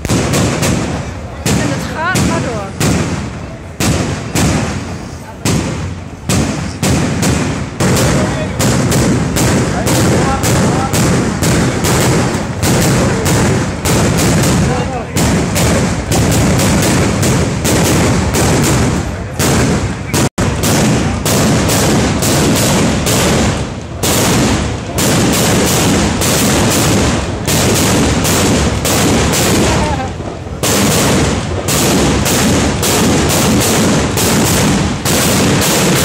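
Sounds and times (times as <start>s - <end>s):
firecrackers exploding: 0.0s - 36.0s.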